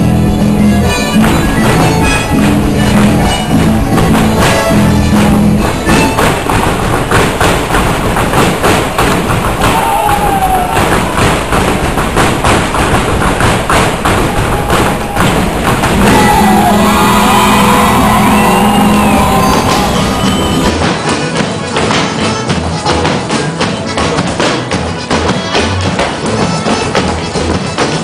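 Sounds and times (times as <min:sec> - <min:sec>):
folk music: 0:00.0 - 0:28.0
boots stamping on stage floor: 0:00.2 - 0:28.0.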